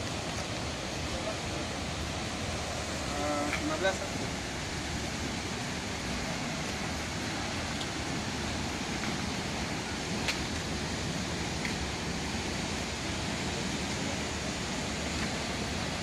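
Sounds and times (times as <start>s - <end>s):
waterfall and river roar: 0.0s - 16.0s.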